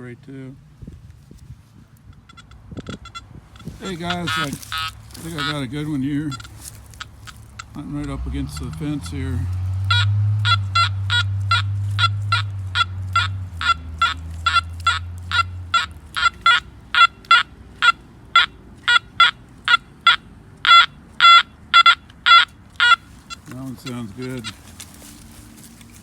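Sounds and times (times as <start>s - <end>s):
metal detector beeps: 2.1s - 24.8s.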